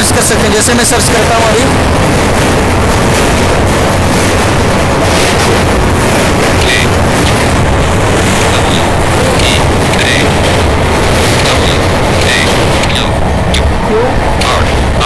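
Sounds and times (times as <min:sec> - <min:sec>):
loud rushing noise: 0:00.0 - 0:15.0
low rumble: 0:00.0 - 0:15.0.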